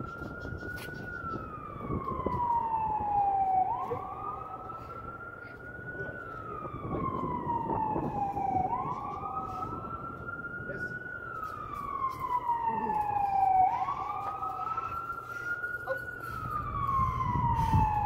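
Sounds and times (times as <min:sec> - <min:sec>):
emergency siren wailing: 0:00.0 - 0:18.0.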